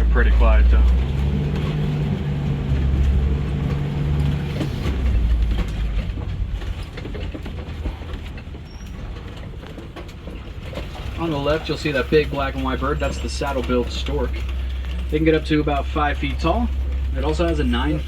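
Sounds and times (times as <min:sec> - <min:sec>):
truck engine hum: 0:00.0 - 0:18.0
truck rattling and knocking: 0:00.0 - 0:18.0.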